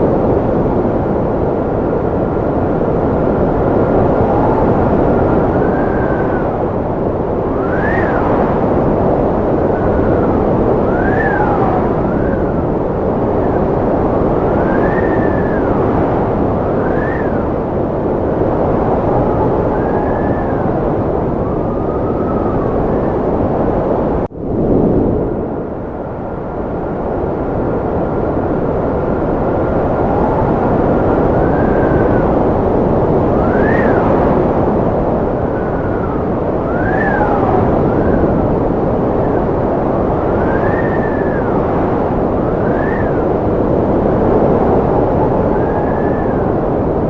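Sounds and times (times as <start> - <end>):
howling wind whistle: 0.0 - 47.0
strong wind rushing: 0.0 - 47.0.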